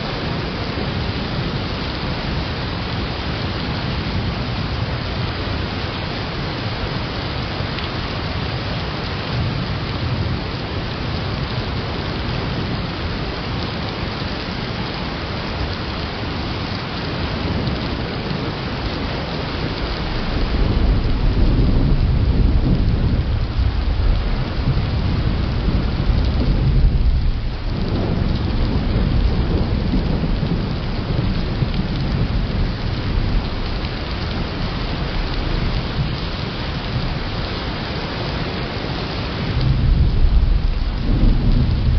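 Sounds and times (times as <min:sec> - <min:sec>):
steady rain hiss: 0:00.0 - 0:41.9
deep rumble of thunder: 0:06.4 - 0:41.9.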